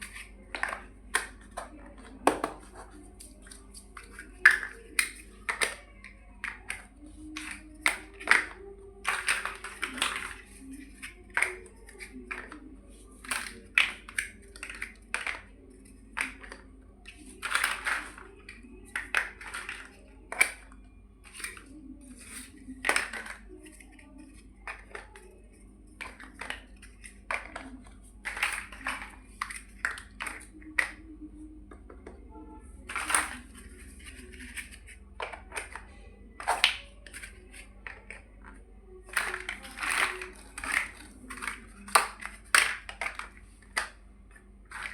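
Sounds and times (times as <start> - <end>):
plastic bricks clicking and clattering: 0.0 - 31.1, 32.8 - 44.9.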